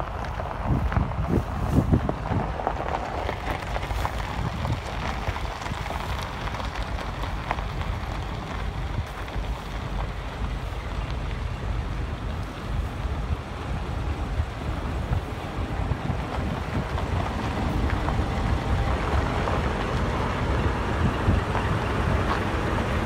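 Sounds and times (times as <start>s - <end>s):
locomotive engine and wheels: 0.0s - 23.0s
wind buffeting microphone: 0.0s - 23.0s.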